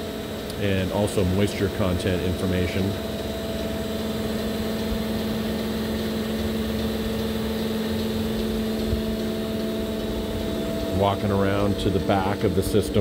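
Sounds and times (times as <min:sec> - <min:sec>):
pumps and motors humming: 0:00.0 - 0:13.0.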